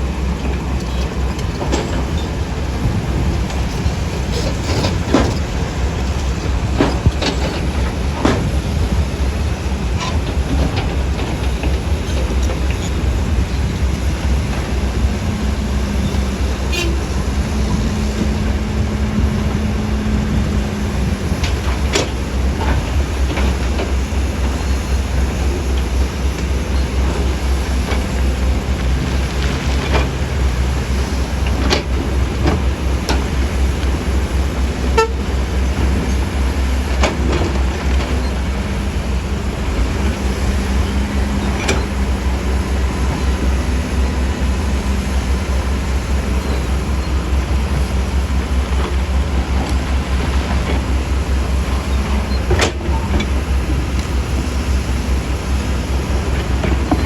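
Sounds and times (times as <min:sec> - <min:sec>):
diesel machinery rumbling: 0:00.0 - 0:57.0.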